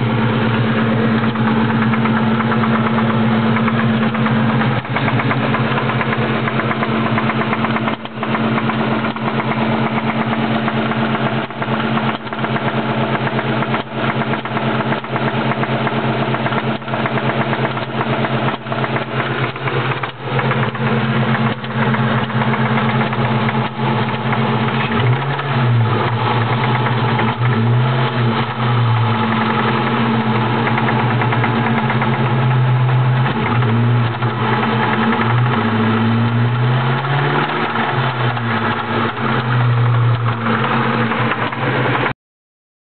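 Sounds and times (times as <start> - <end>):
rattling ticking engine knock: 0.0 - 42.1
car engine running: 0.0 - 42.2.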